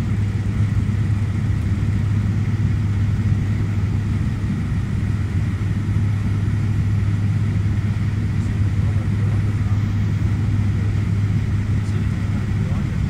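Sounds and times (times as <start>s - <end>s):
turboprop cabin drone: 0.0s - 13.0s.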